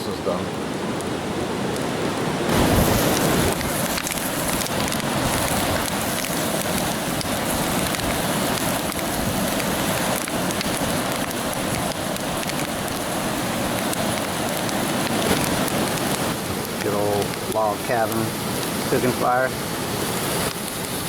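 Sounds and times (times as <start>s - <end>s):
sausages sizzling in a frying pan: 2.5s - 21.0s.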